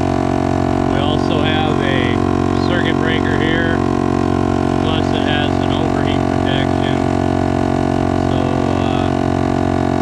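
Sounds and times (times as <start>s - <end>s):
air compressor drone: 0.0s - 10.0s.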